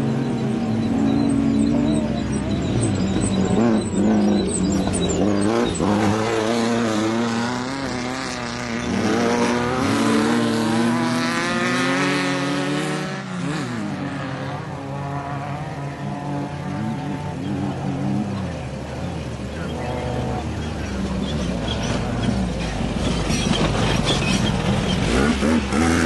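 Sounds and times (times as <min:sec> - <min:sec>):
race vehicle engines revving: 0:00.0 - 0:26.0.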